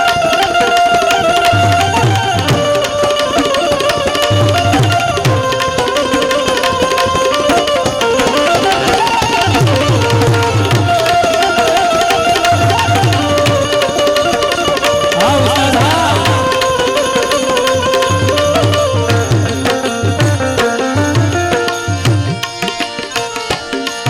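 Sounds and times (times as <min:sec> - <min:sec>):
harmonium melody: 0:00.0 - 0:24.0
tabla and percussion: 0:00.0 - 0:24.0.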